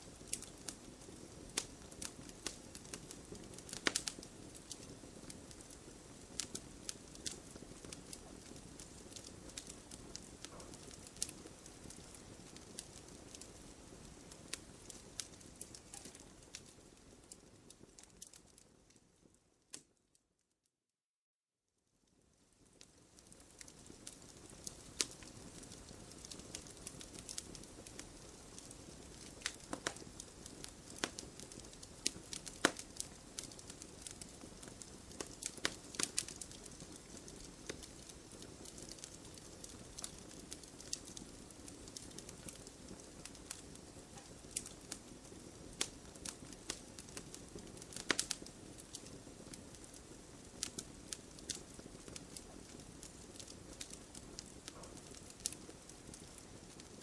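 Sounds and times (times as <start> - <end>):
fire hissing: 0.0 - 16.8, 23.7 - 56.9
fire crackles and pops: 0.0 - 20.2, 21.8 - 57.0.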